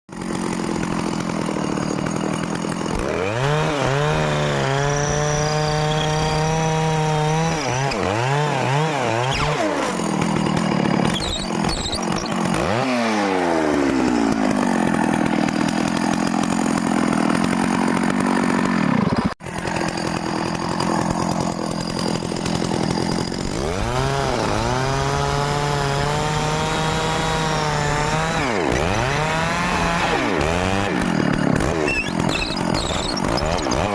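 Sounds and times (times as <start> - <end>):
engine drill revving: 0.1 - 33.9
drill boring into wood: 0.2 - 33.9.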